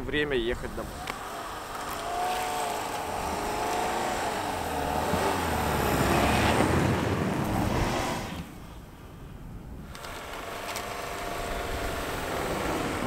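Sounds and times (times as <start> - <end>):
tyres churning snow: 0.0 - 9.0, 9.8 - 13.0
car engine revving: 0.6 - 8.8, 10.0 - 13.0.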